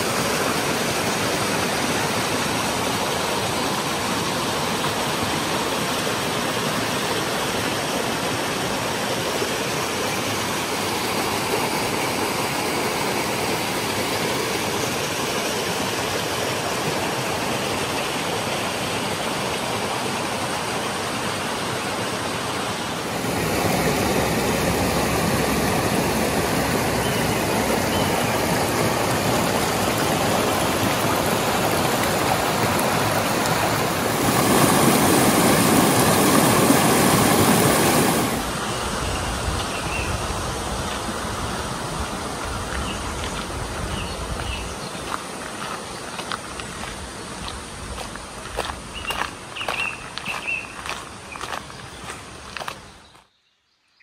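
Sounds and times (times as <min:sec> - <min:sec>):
stream water rushing: 0:00.0 - 0:53.2.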